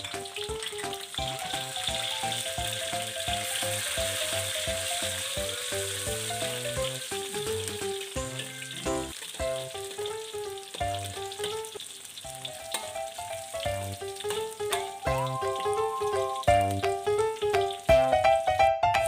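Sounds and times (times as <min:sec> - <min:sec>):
melodic background music: 0:00.0 - 0:11.7, 0:12.3 - 0:19.0
food sizzling in hot oil: 0:00.0 - 0:19.0.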